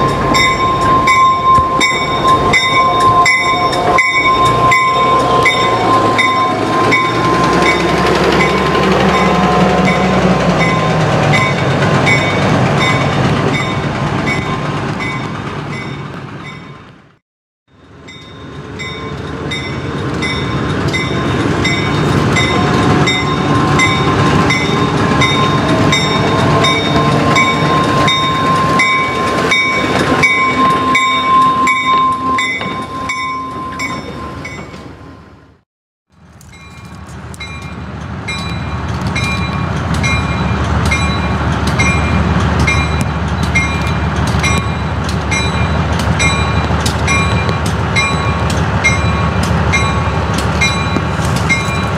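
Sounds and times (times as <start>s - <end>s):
locomotive bell ringing: 0.0s - 16.9s, 17.7s - 35.4s, 36.4s - 51.9s
diesel locomotive engine rumbling: 0.0s - 51.9s.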